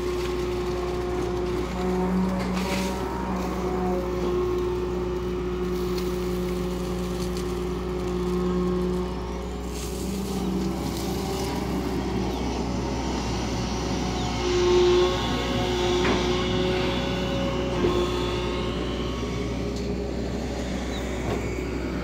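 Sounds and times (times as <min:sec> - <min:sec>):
excavator diesel engine under load: 0:00.0 - 0:22.0.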